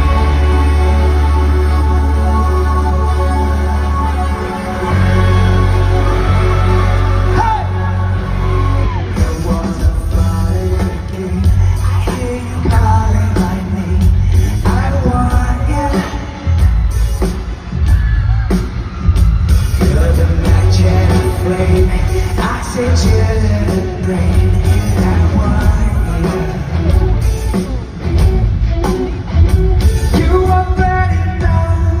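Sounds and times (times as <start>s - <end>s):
lead singer: 0.0s - 32.0s
live pop-rock band: 0.0s - 32.0s.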